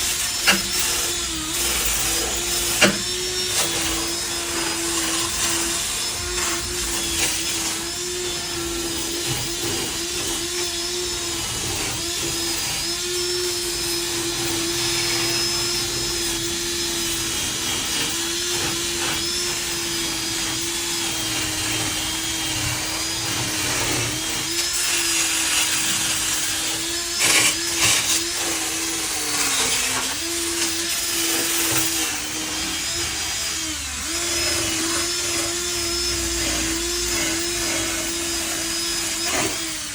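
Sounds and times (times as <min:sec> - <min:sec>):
electric power tool on metal: 0:00.0 - 0:39.9.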